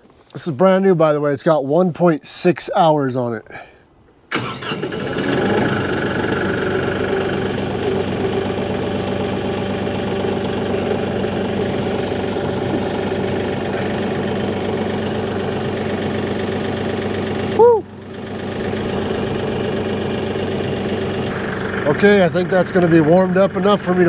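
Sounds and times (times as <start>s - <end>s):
diesel tractor engine starting: 4.3s - 24.0s.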